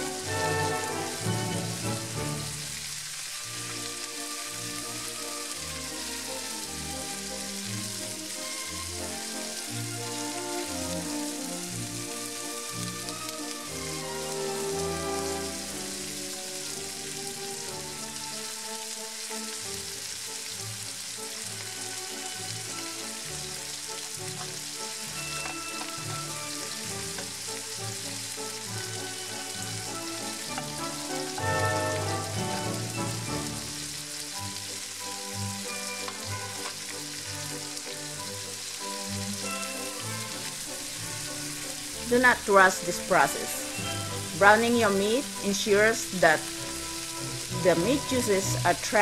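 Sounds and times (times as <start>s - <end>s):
background music: 0.0s - 49.0s
chicken sizzling in a frying pan: 0.0s - 49.0s.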